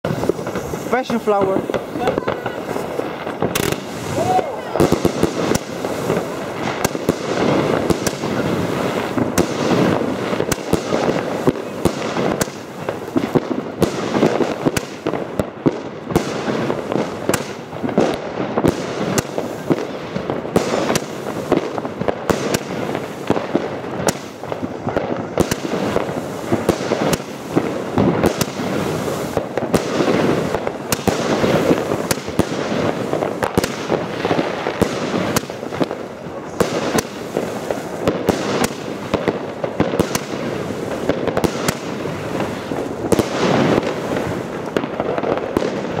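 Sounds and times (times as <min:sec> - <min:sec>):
fireworks launching and bursting: 0:00.0 - 0:46.0
sharp firework cracks: 0:00.0 - 0:46.0.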